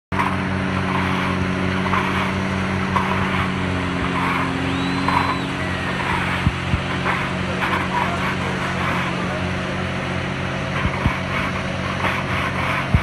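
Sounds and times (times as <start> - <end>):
diesel machinery engine hum: 0.1 - 13.0
rhythmic rushing noise: 0.1 - 13.0.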